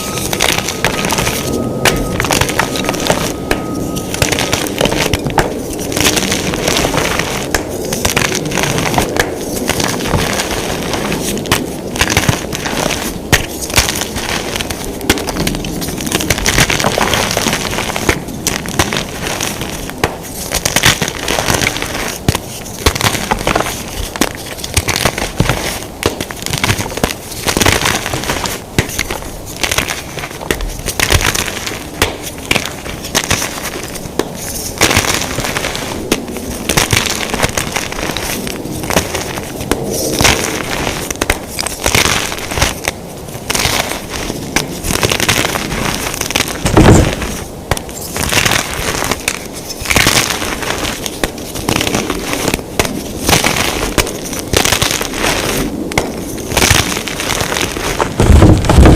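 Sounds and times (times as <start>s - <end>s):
chalk crunching and crackling: 0.0s - 58.9s.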